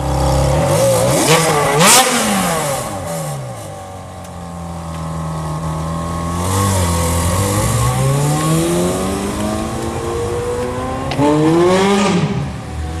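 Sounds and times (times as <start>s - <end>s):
car engine accelerating: 0.0s - 3.8s, 4.4s - 13.0s.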